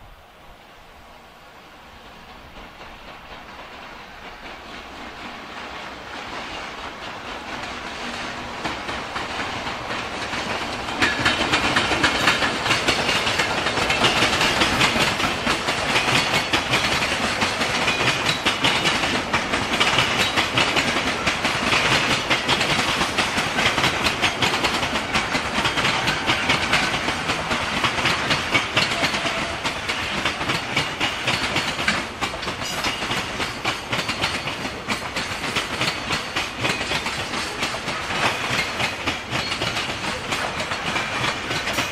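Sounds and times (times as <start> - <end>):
train wheels clattering over rail joints: 2.0 - 41.9.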